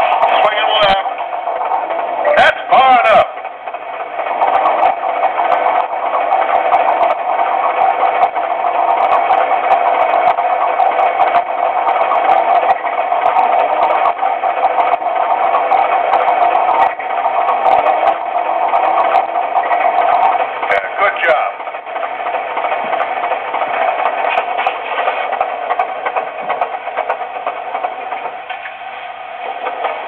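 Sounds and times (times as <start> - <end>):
model crane motor whirring: 0.0 - 30.0.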